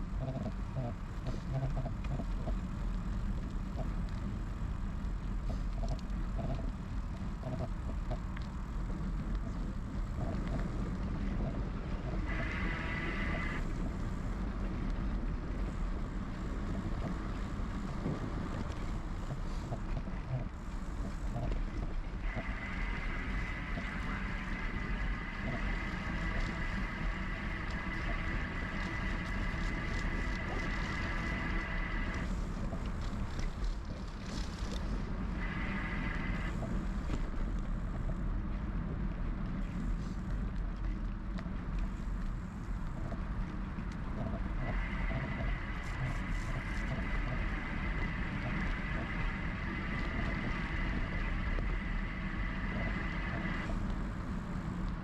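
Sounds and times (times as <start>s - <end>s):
tyre rumble and wind: 0.0s - 55.0s.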